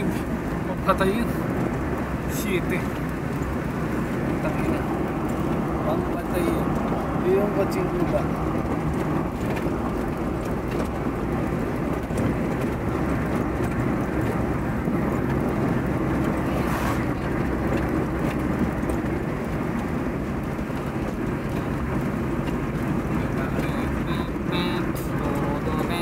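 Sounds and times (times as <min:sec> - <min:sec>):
vehicle road and wind noise: 0:00.0 - 0:26.0
passing vehicle whoosh: 0:01.2 - 0:23.2.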